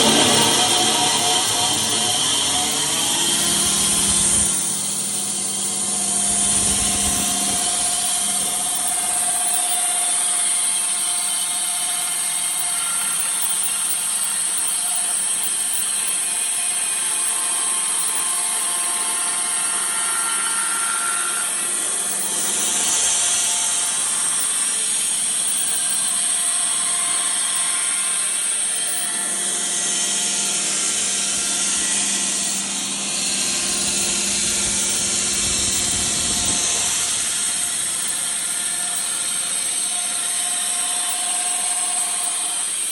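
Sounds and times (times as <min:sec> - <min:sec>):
saw blade cutting wood: 0:00.0 - 0:42.9.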